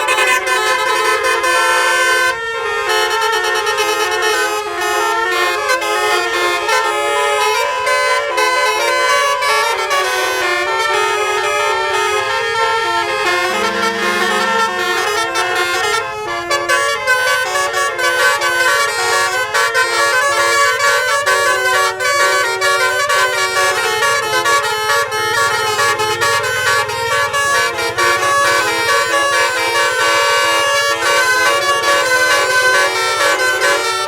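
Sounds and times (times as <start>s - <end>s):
bus horn playing melody: 0.0s - 34.0s.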